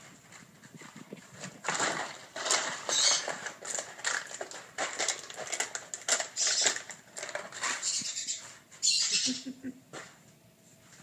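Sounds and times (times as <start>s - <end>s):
puppy paws scrabbling on tile: 0.0s - 9.2s.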